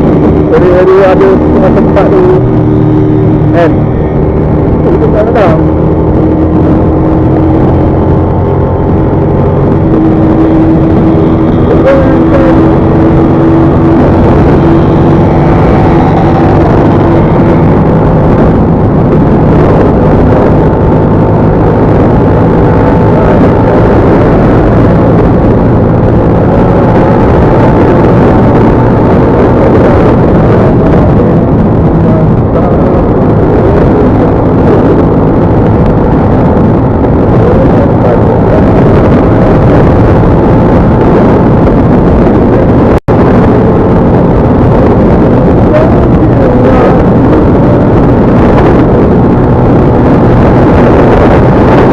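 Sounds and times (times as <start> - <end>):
vehicle engine and road noise: 0.0 - 51.9
wind buffeting: 0.0 - 51.9.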